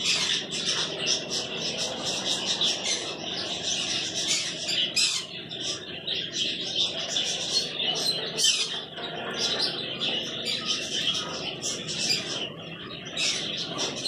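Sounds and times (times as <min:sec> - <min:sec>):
cage birds twittering: 0:00.0 - 0:14.0.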